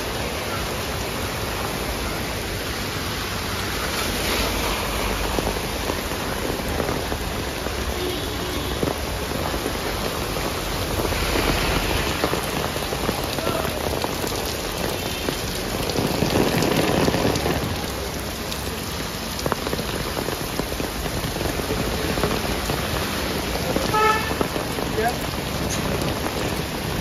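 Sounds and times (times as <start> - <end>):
heavy rain splashing on pavement: 0.0 - 27.0
water running off roof edges: 0.0 - 27.0.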